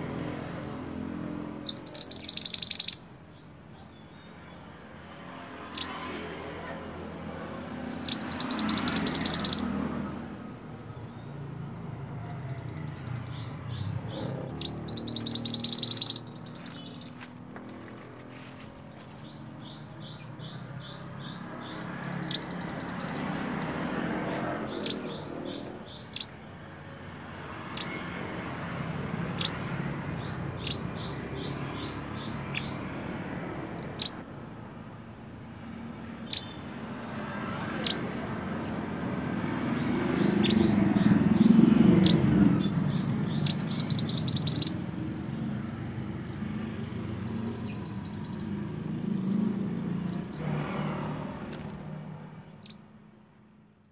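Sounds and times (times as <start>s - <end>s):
bird chirps and buzzy trills: 0.0s - 53.0s.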